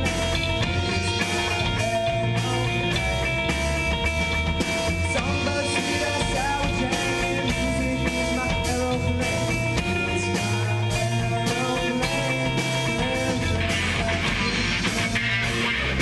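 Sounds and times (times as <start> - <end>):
bass line: 0.0 - 16.0
drum kit beat: 0.0 - 16.0
electric guitar: 0.0 - 16.0.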